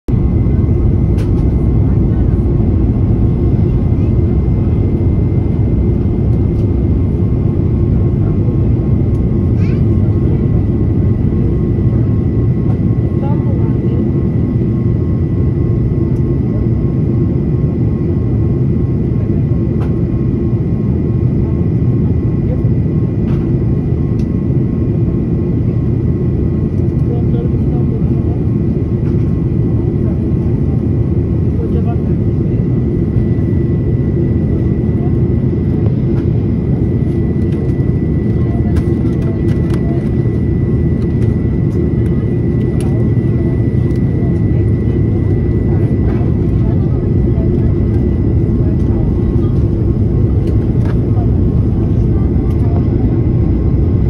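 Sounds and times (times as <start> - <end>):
jet cabin engine rumble: 0.0 - 54.0.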